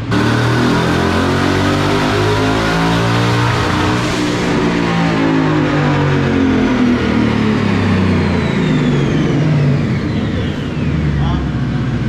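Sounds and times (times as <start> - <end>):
car engine running loud: 0.0 - 12.0
high whine falling in pitch: 0.0 - 12.0.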